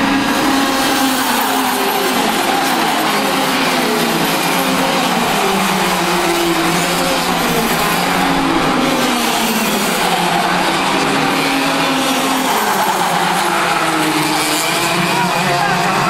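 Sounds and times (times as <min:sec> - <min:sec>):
racing kart engines running hard: 0:00.0 - 0:16.0.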